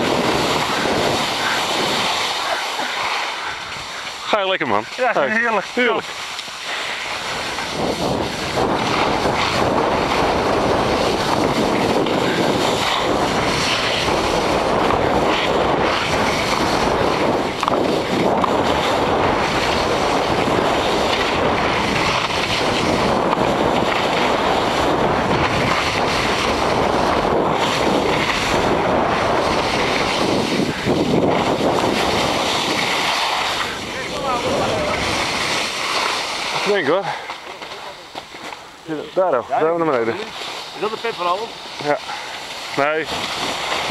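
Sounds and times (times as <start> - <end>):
skis scraping over snow: 0.0 - 43.9
wind buffeting microphone: 0.0 - 43.9.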